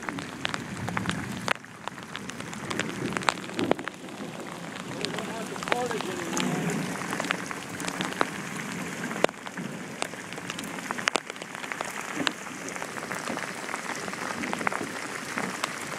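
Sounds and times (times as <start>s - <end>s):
heavy rain on a lake: 0.0s - 15.9s
raindrops tapping close by: 0.0s - 15.9s.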